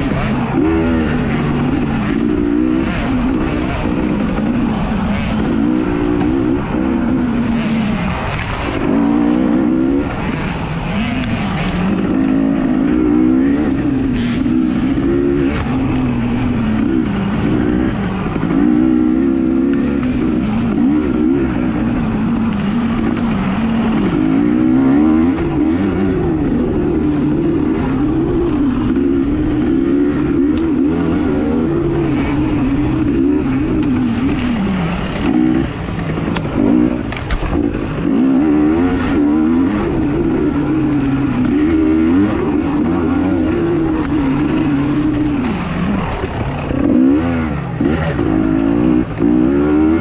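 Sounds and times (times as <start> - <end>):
racing engine revving: 0.0 - 50.0.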